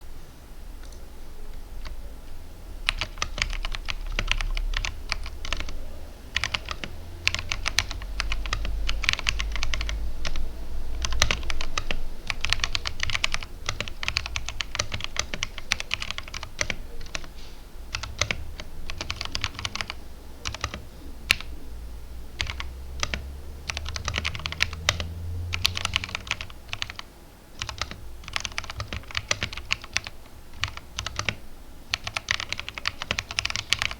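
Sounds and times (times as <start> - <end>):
typing on mechanical keyboard: 2.9 - 17.3, 17.9 - 21.5, 22.4 - 27.0, 27.6 - 33.9.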